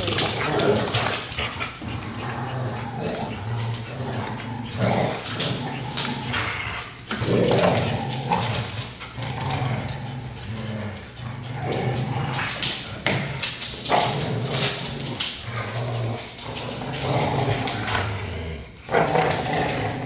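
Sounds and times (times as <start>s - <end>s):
dogs growling in play: 0.0s - 20.0s.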